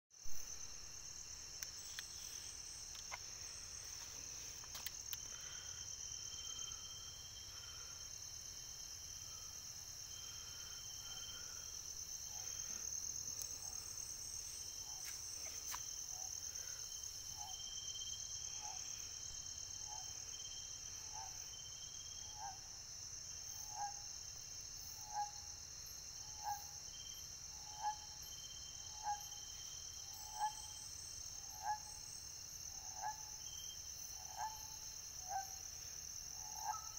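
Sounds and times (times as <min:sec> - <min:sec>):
crickets trilling: 0:00.2 - 0:36.9.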